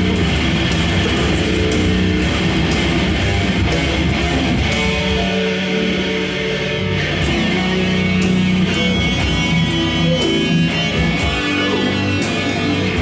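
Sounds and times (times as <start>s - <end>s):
drums and cymbals: 0.0s - 5.8s, 7.1s - 13.0s
distorted electric guitars: 0.0s - 13.0s.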